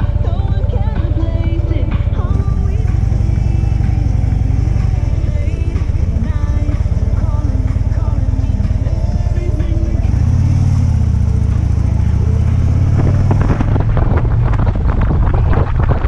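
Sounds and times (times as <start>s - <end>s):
background music with singing: 0.0s - 14.0s
motorcycle engine running: 0.0s - 16.0s.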